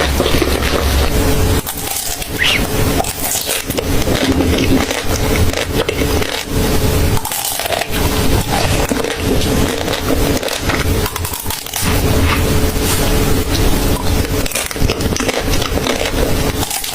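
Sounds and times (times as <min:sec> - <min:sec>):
crunching and chewing food: 0:00.0 - 0:16.9.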